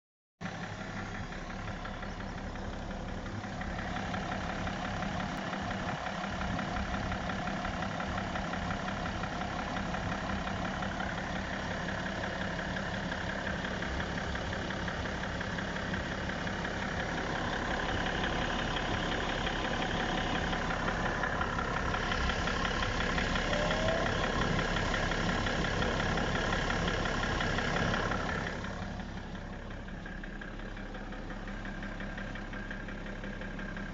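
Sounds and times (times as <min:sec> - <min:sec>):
diesel engine idling: 0:00.4 - 0:33.9
engine knock: 0:00.4 - 0:33.9.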